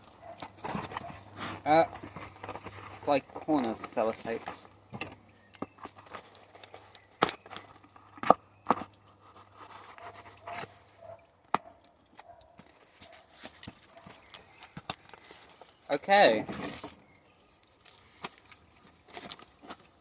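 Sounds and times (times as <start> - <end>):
cardboard and tape cracking: 0.0 - 10.9, 11.5 - 17.0, 17.6 - 20.0
contents rustling: 0.0 - 11.1, 12.2 - 17.0, 17.6 - 20.0.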